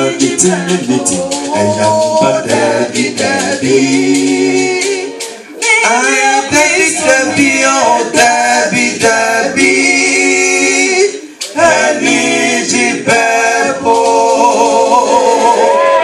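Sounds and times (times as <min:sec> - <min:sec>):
choir singing a cappella: 0:00.0 - 0:16.0.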